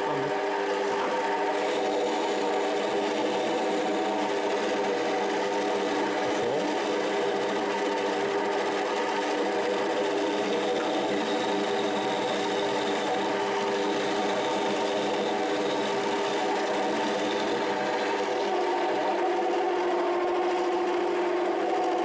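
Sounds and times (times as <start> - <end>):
mini lathe whining: 0.0 - 22.0.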